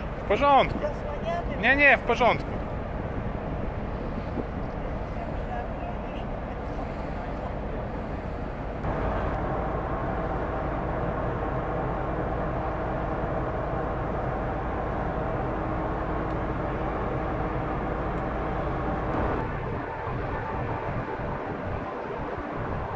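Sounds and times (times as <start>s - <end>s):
ship engine drone: 0.0s - 22.9s.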